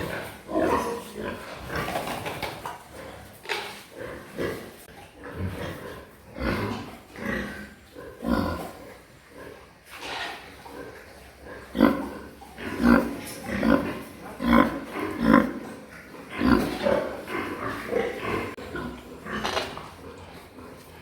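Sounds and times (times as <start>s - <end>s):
pigs grunting: 0.0s - 21.0s.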